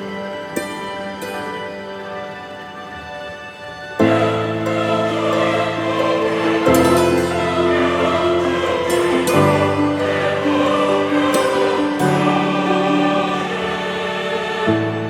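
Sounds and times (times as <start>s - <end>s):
slow choir-like chords: 0.0s - 15.0s.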